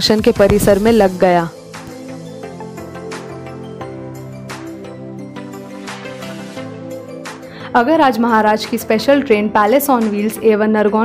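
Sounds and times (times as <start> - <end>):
background music with light beat: 0.0 - 11.0.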